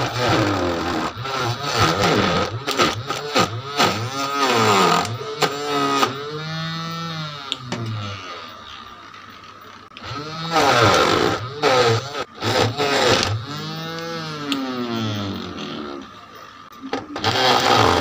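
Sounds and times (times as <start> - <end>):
small motor whining: 0.0 - 9.0, 9.9 - 16.2, 17.2 - 18.0.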